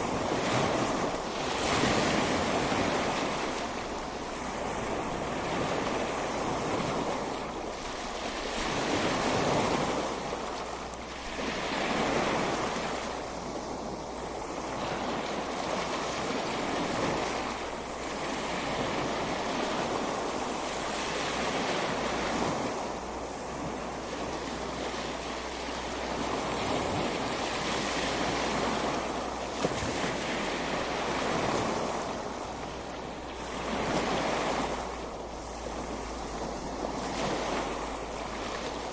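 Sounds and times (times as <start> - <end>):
surf breaking on beach: 0.0 - 38.9.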